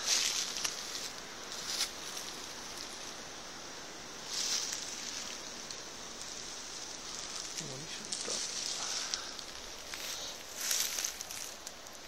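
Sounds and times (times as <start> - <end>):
leaves rustling: 0.0 - 12.0
steady high hiss: 0.0 - 12.0.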